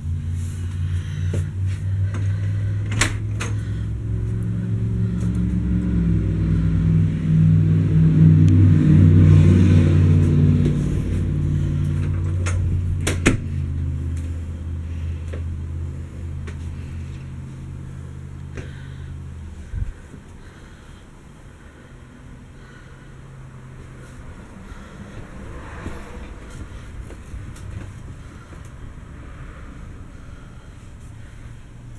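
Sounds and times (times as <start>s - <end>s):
low engine-like hum: 0.0s - 31.9s.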